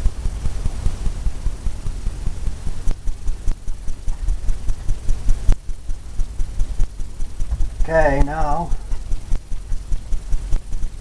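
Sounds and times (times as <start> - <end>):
brush thumping on taut canvas: 0.0 - 11.0.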